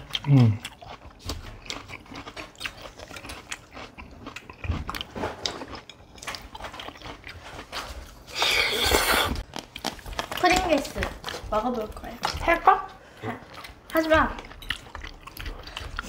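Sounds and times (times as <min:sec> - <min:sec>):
people chewing: 0:00.0 - 0:16.0.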